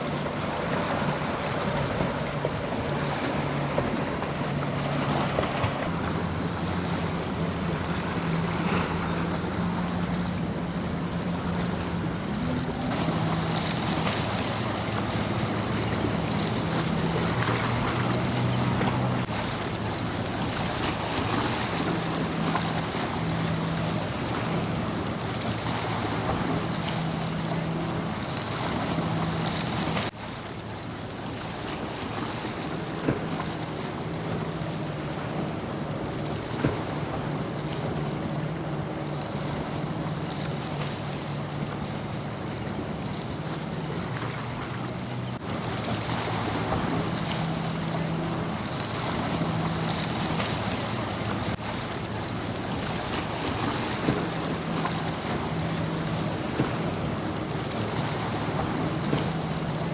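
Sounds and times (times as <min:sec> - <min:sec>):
boat engine humming: 0:00.0 - 0:59.9
waves washing: 0:00.0 - 0:59.9.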